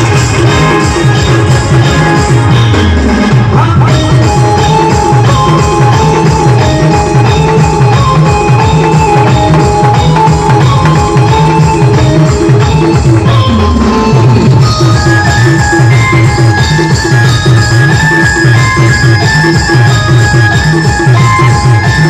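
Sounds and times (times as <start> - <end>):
driving drum beat: 0.0 - 22.0
live band music: 0.0 - 22.0.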